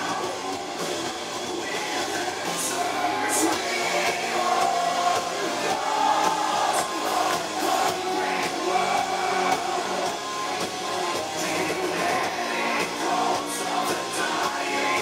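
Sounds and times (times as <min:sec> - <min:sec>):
distorted electric guitars: 0:00.0 - 0:15.0
drums with cymbals: 0:00.0 - 0:15.0
person singing: 0:01.5 - 0:10.2, 0:10.8 - 0:15.0.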